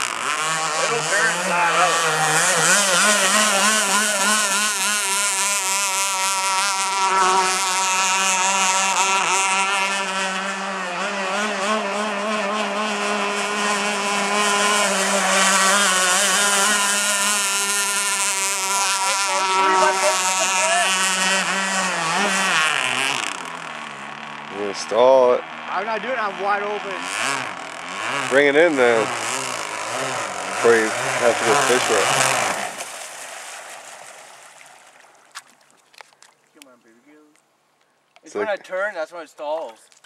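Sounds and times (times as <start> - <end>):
model boat engine buzzing: 0.0 - 35.7.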